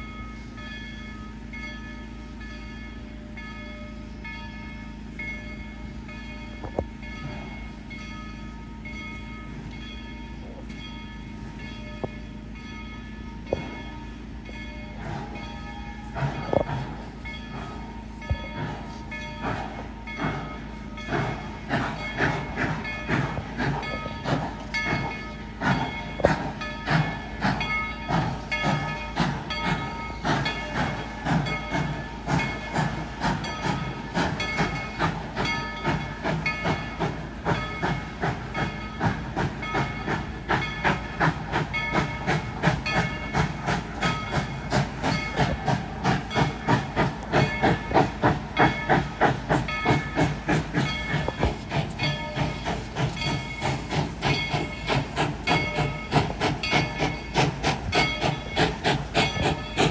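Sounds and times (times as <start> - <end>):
steam locomotive chuffing: 0.0 - 59.9
steam hissing: 10.4 - 59.9.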